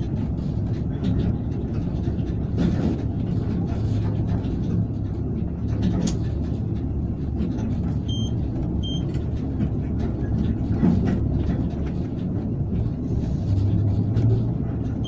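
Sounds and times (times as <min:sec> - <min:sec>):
rumble of train wheels: 0:00.0 - 0:15.0
track rattles and clicks: 0:00.0 - 0:15.0.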